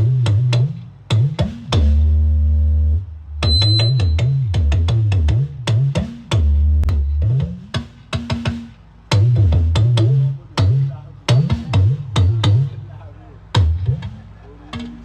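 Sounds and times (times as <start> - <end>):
drums playing a groove: 0.0 - 2.2, 3.4 - 15.0
bass line: 0.0 - 15.0.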